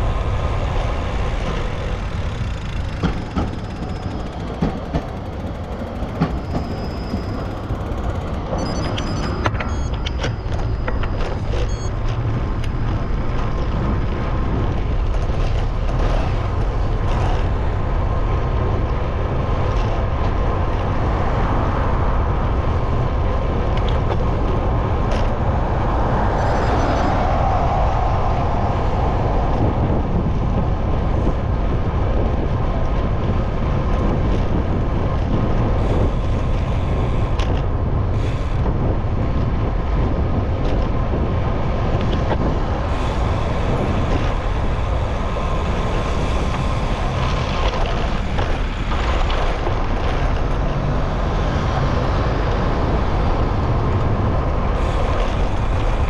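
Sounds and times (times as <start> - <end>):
road and traffic noise: 0.0 - 56.0
wind rumble on microphone: 0.0 - 56.0.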